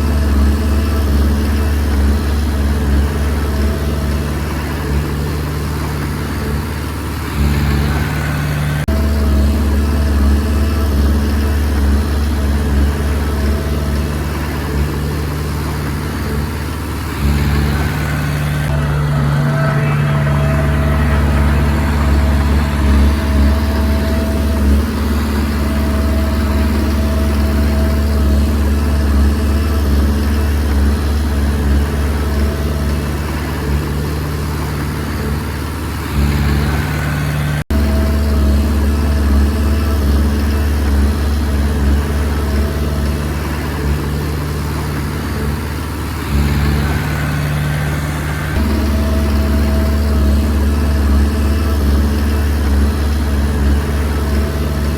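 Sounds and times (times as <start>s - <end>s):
bulldozer diesel engine working: 0.0s - 54.9s.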